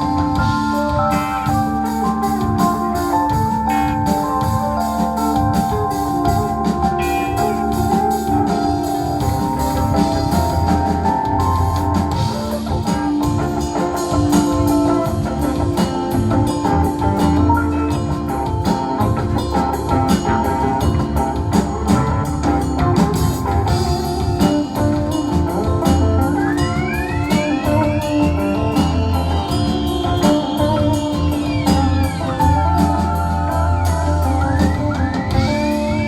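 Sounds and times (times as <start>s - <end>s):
drum kit: 0.0s - 36.0s
electric guitar: 0.0s - 36.0s
live rock band: 0.0s - 36.0s.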